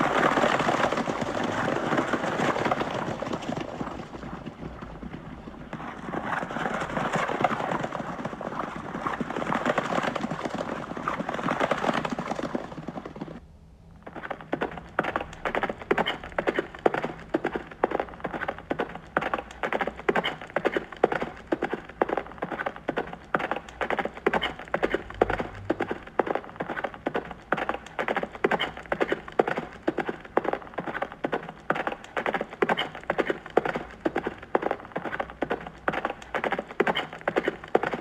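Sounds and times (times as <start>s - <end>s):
horse hooves clip-clopping: 0.0s - 13.4s, 14.0s - 38.0s.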